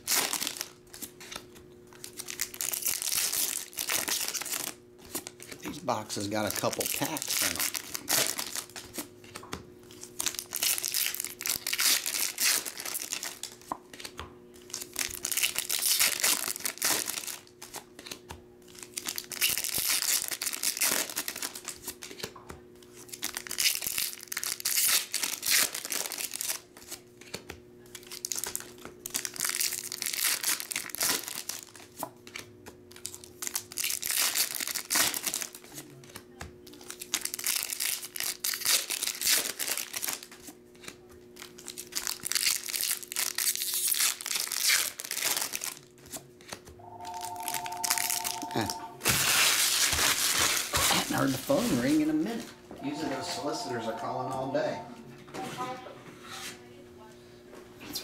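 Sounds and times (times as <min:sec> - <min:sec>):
foil wrappers crinkling and tearing: 0:00.0 - 0:46.7, 0:47.4 - 0:52.5.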